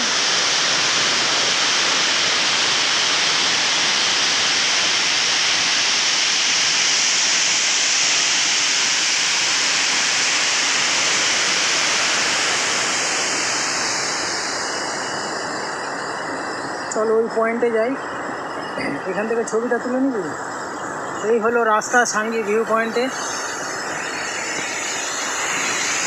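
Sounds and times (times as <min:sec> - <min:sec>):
waterfall rushing: 0:00.0 - 0:17.0, 0:17.6 - 0:26.0.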